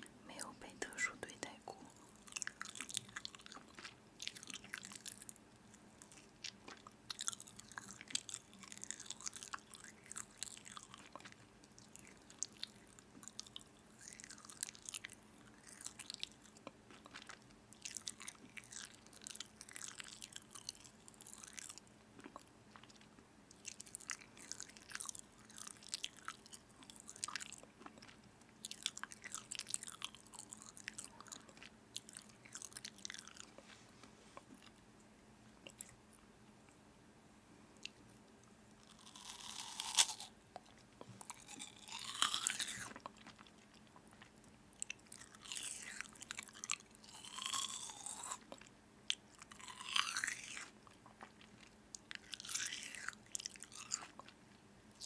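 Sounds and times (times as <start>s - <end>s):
person chewing crunchy food: 1.4s - 34.8s, 35.6s - 36.0s, 37.8s - 55.0s.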